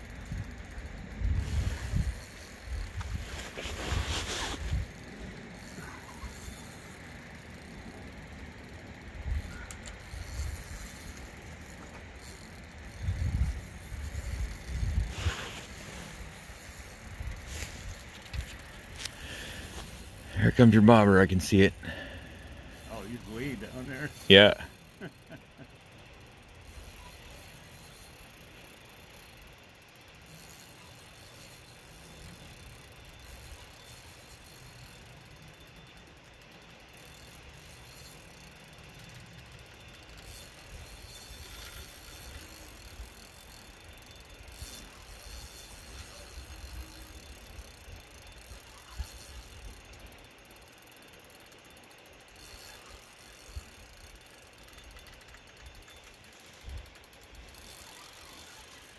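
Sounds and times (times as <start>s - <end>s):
fishing reel ratchet clicking: 0.0s - 3.3s, 4.6s - 58.9s.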